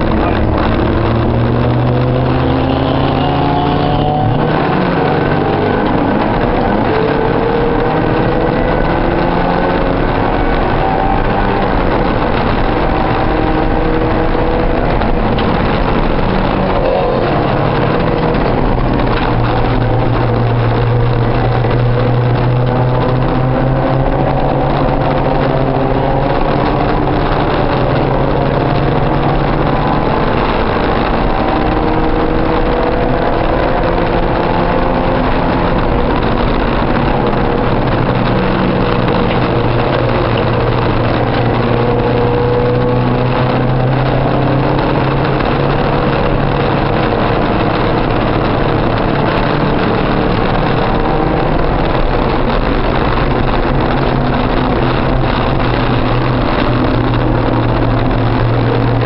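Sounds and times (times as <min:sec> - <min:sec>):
race car engine accelerating: 0:00.0 - 0:59.0
road and wind noise: 0:00.0 - 0:59.0.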